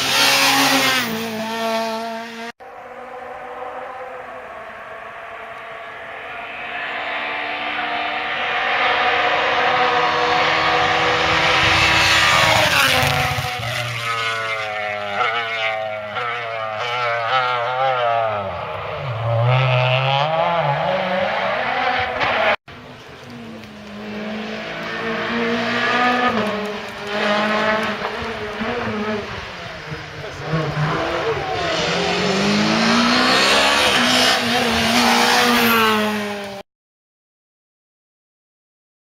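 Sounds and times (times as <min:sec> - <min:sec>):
rally car engines revving: 0:00.0 - 0:36.6.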